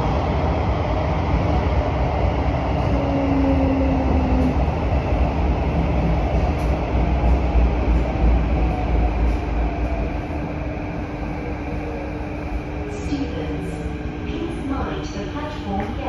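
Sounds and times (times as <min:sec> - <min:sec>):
train wheel and rail rumble: 0:00.0 - 0:16.0.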